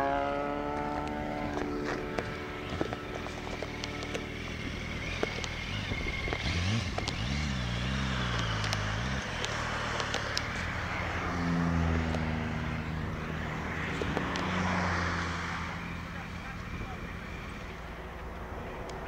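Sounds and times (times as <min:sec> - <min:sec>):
motorcycle engine revving: 0:00.0 - 0:19.0
road and wind hiss: 0:00.0 - 0:19.0.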